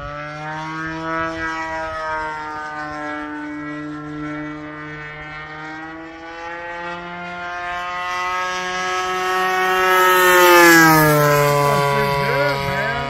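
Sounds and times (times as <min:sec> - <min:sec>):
model plane engine in flight: 0:00.0 - 0:13.0.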